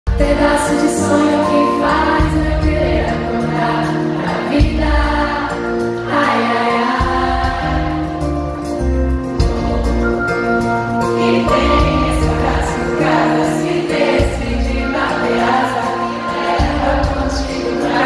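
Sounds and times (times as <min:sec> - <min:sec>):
live pop band playing: 0:00.1 - 0:18.0
several voices singing: 0:00.3 - 0:08.4, 0:11.0 - 0:18.0.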